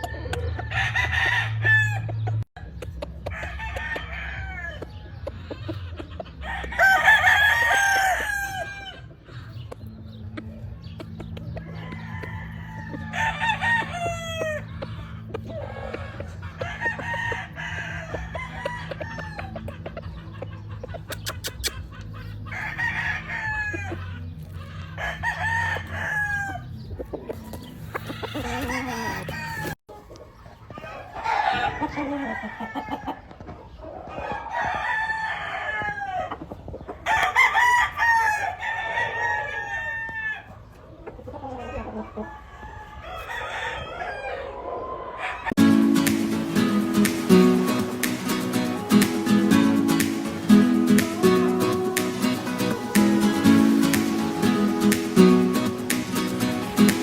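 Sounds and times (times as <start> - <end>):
roosters crowing: 0.0 - 9.6, 11.5 - 21.1, 21.8 - 57.0
chickens clucking: 0.0 - 57.0.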